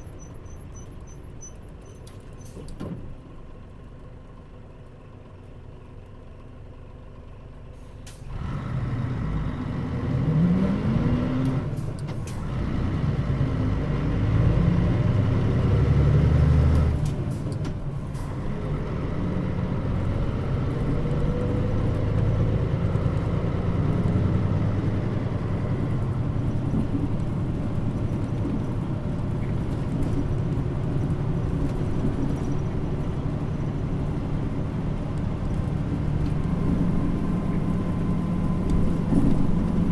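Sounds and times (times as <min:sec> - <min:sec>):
bus diesel engine revving: 0:07.7 - 0:39.9.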